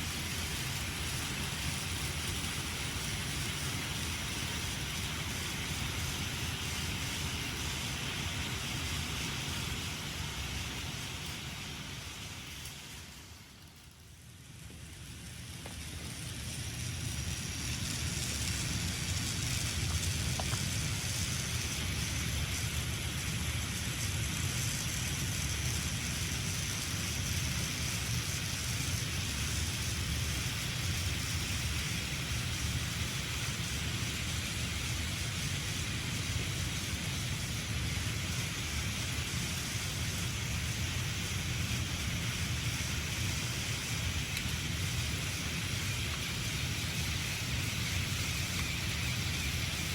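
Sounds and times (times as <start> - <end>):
hiss: 0.0 - 49.9
toy train motor rumbling: 0.0 - 49.9.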